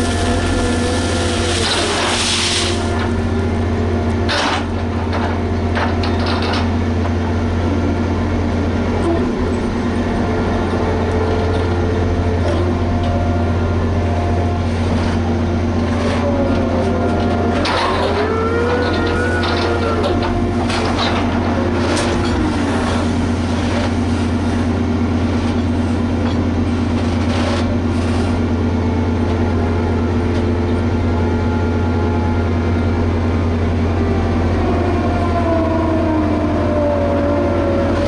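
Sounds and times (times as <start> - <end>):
excavator engine drone: 0.0 - 38.0
machine whine: 0.0 - 38.0.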